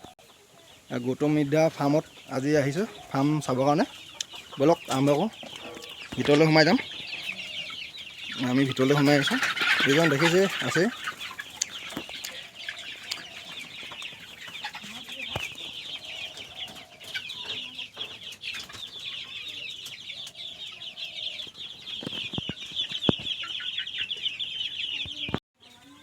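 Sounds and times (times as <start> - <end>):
chickens clucking: 0.0 - 26.0
chicks peeping: 0.0 - 26.0.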